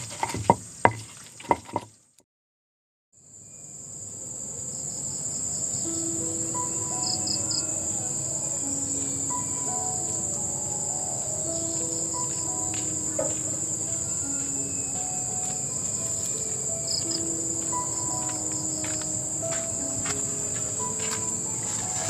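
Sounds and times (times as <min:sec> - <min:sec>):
insects shrill chorus: 0:03.4 - 0:22.0.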